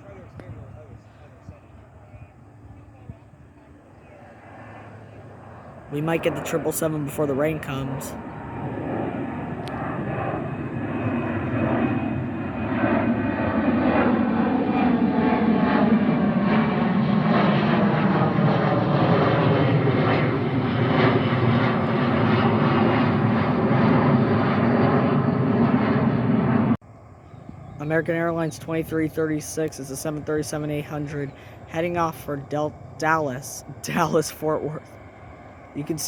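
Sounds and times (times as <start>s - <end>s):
jet airliner taking off: 0.0s - 36.0s.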